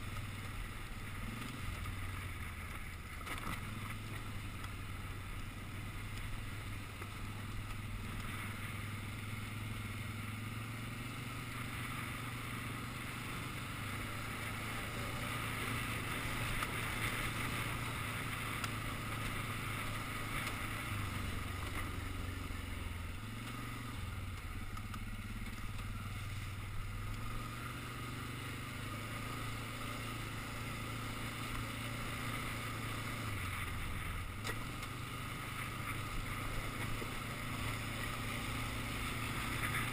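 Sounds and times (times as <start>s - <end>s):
quad engine droning: 0.0s - 39.9s
tyres on gravel and wind: 0.0s - 39.9s.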